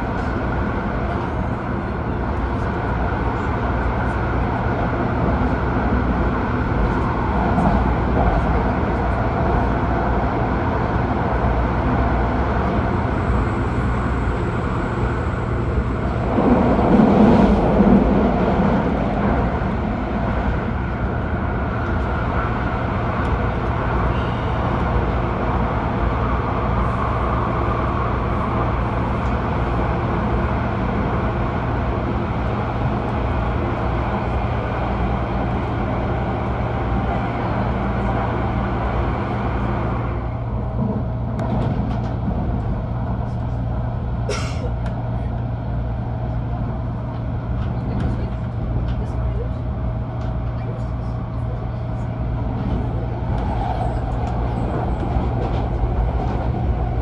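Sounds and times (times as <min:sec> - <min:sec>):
train wheels and motors rumbling: 0:00.0 - 0:57.0.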